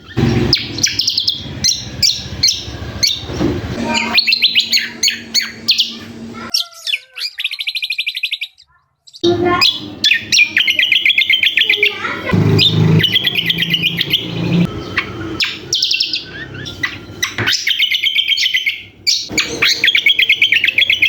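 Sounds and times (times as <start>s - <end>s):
songbird chirps and trills: 0.0s - 21.0s.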